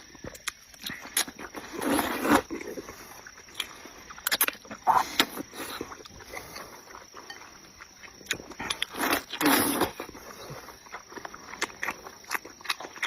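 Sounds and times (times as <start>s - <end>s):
person chewing wetly: 0.1s - 13.0s.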